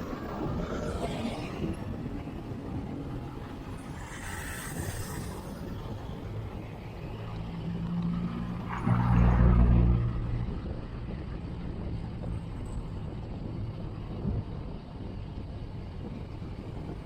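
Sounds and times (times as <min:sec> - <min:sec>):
motor vehicle engine hum: 0:00.0 - 0:17.0
road traffic: 0:00.0 - 0:17.0
wind rumble on camera: 0:00.0 - 0:17.0.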